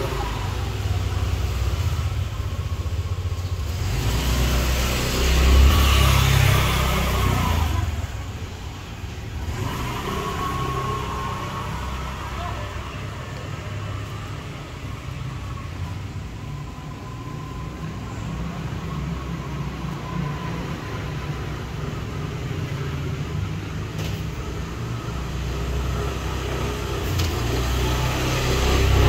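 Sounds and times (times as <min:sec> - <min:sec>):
engine rumbling: 0:00.0 - 0:29.0.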